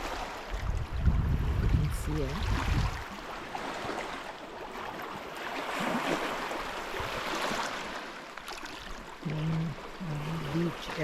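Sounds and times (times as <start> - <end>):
waves lapping at shoreline: 0.0 - 11.0.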